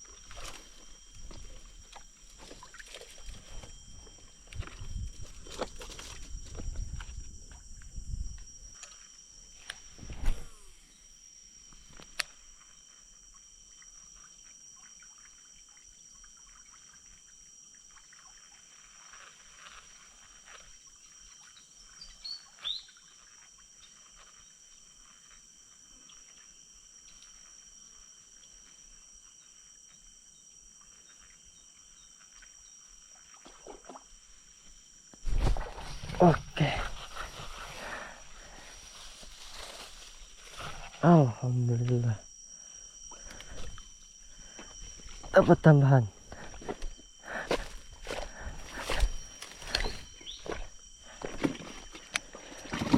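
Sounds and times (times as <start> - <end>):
insects droning: 0.0 - 52.9.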